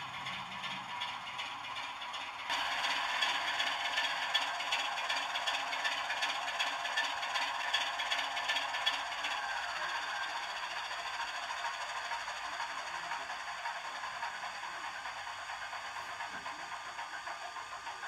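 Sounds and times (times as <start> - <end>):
model train clattering on track: 0.0 - 18.0.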